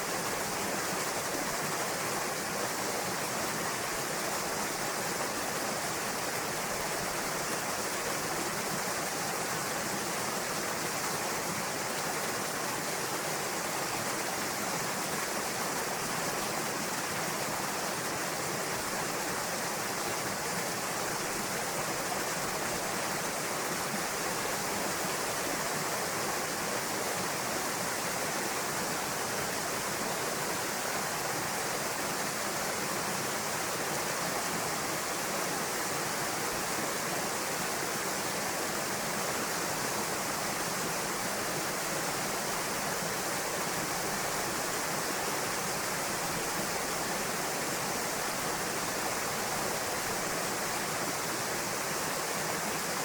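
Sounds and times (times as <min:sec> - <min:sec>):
waterfall pouring into a pool: 0:00.0 - 0:53.0.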